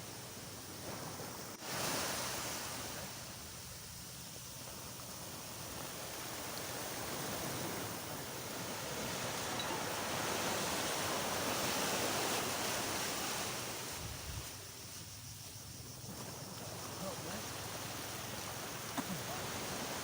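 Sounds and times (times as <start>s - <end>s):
waves washing onto sandy beach: 0.0s - 3.9s, 4.5s - 20.0s.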